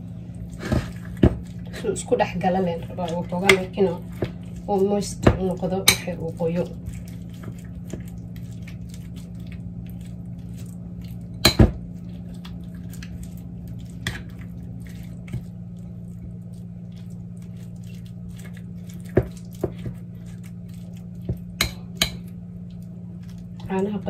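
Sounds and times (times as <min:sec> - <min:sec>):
steady low hum: 0:00.0 - 0:24.0
spoon stirring in a bowl: 0:00.9 - 0:23.8.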